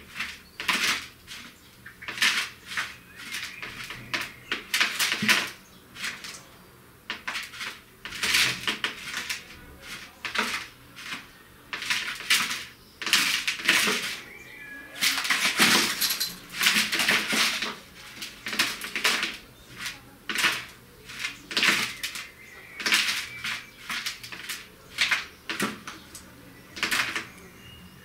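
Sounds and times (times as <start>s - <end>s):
bird fluttering and pecking: 0.0s - 6.5s, 7.1s - 27.4s
rustling and scraping: 0.0s - 27.5s.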